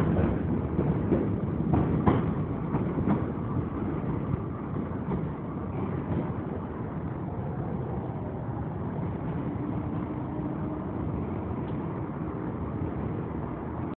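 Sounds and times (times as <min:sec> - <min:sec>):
subway train rumbling: 0:00.0 - 0:13.9.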